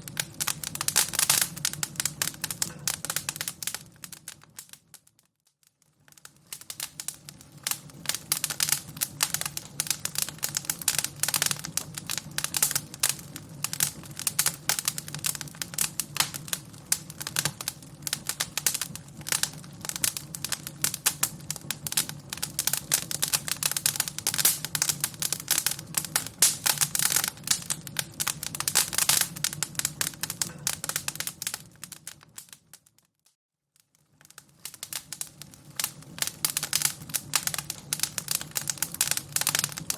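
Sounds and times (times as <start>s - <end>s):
fire crackling: 0.0s - 33.1s, 33.8s - 39.9s.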